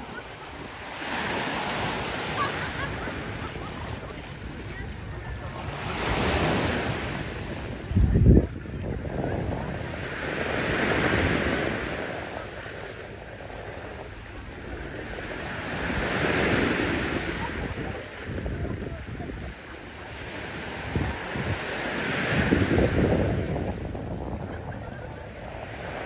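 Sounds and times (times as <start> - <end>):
small waves breaking on shore: 0.0 - 26.0
wind buffeting microphone: 3.0 - 26.0.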